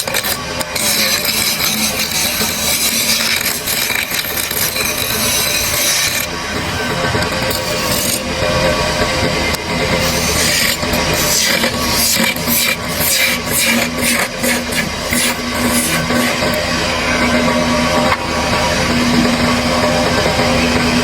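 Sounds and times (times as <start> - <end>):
tool cutting wood: 0.0 - 21.0.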